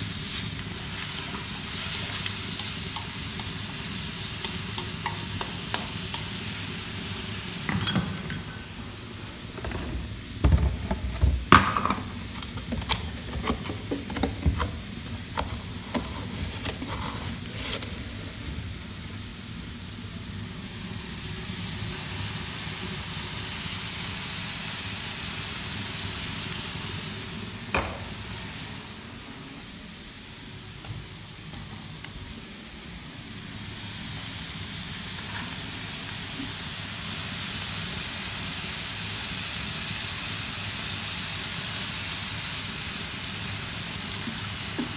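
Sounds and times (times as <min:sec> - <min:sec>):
meat sizzling in a wok: 0:00.0 - 0:44.9.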